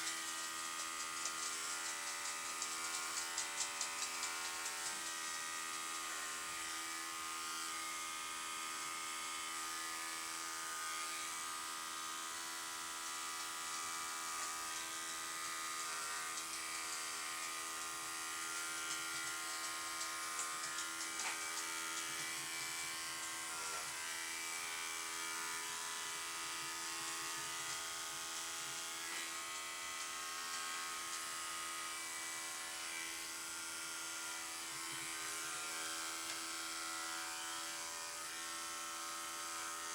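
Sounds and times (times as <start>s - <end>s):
electric clippers running: 0.0s - 39.9s.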